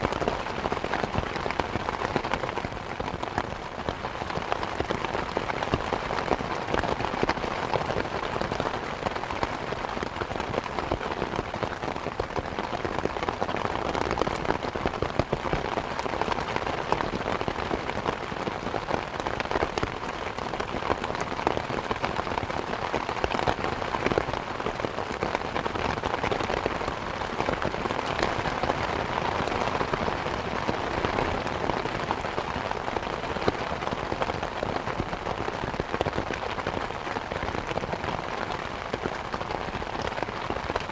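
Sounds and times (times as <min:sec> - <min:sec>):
rain falling on surfaces: 0:00.0 - 0:40.9.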